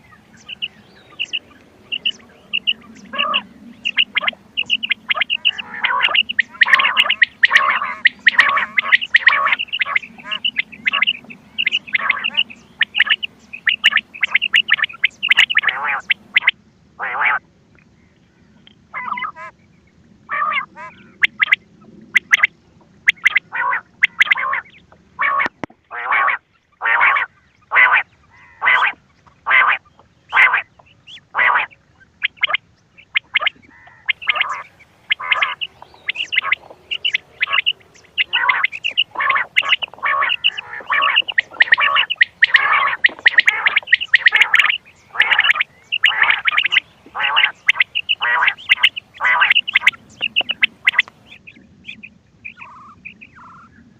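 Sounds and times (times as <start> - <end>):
quail calls: 0.0 - 17.4, 18.9 - 19.6, 20.3 - 53.7.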